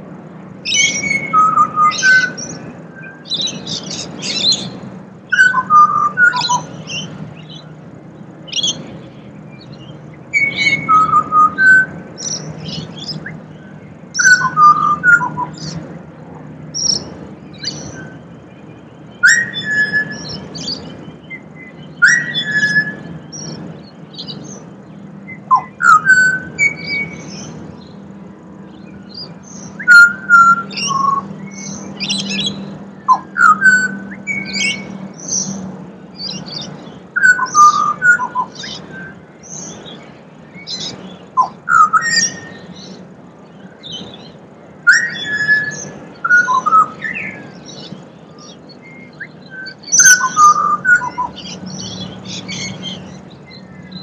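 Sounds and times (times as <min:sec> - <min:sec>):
low background hum: 0:00.0 - 0:54.0
bird singing fluted whistles: 0:00.6 - 0:07.8, 0:08.5 - 0:15.8, 0:16.7 - 0:54.0.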